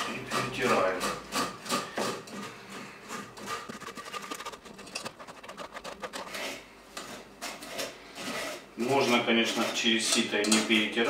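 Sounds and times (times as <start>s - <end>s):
spoon scraping metal sieve: 0.0s - 11.0s.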